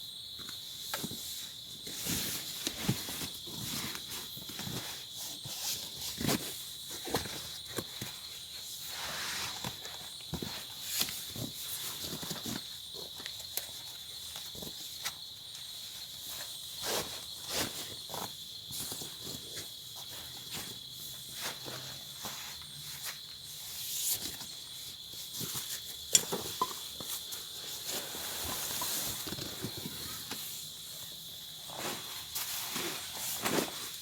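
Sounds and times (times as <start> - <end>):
insect chorus: 0.0 - 34.0
rustling and light knocks: 0.4 - 34.0.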